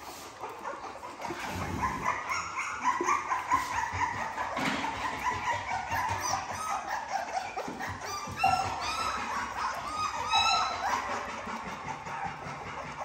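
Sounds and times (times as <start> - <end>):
puppies whining and yipping: 0.0 - 13.0.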